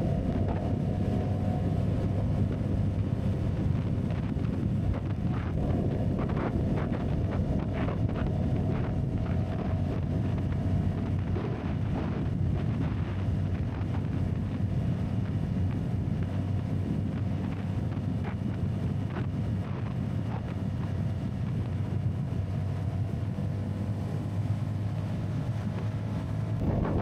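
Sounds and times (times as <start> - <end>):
motorcycle engine drone: 0.0 - 27.0
wind rushing over microphone: 0.0 - 27.0.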